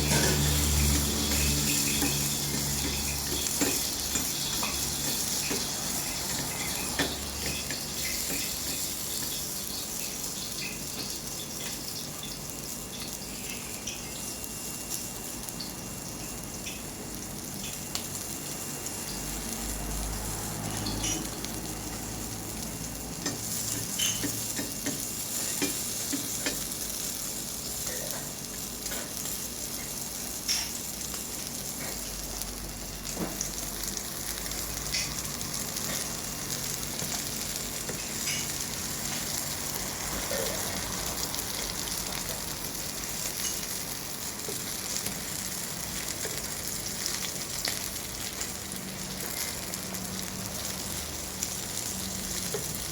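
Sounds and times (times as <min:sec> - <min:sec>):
food sizzling in a pan: 0:00.0 - 0:52.9.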